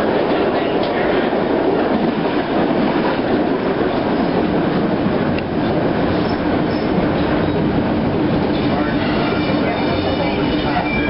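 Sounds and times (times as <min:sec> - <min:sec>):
streetcar wheels rumbling on rails: 0:00.0 - 0:11.0.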